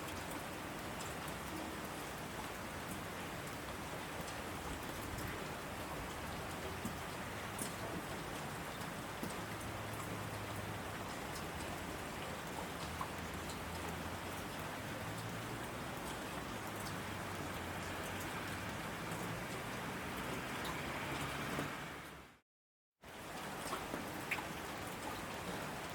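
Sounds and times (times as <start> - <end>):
heavy rain on asphalt: 0.0 - 22.4, 23.0 - 25.9.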